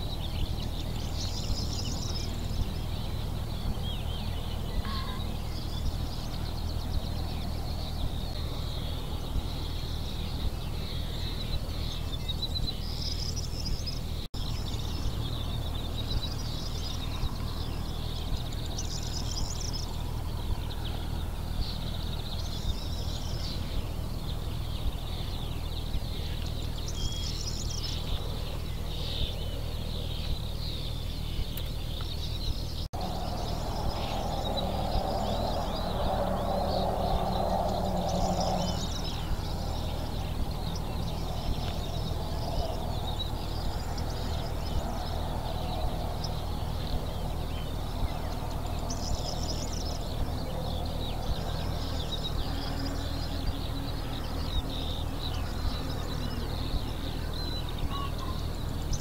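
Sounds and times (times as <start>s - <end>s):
low drone: 0.0s - 59.0s
small birds chirping: 0.0s - 59.0s
steady low hum: 0.0s - 59.0s.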